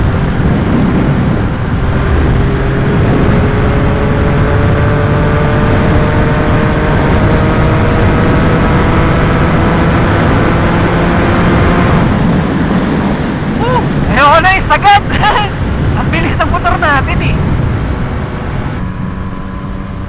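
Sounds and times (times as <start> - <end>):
motorcycle engine accelerating: 0.0 - 14.1, 15.5 - 20.0.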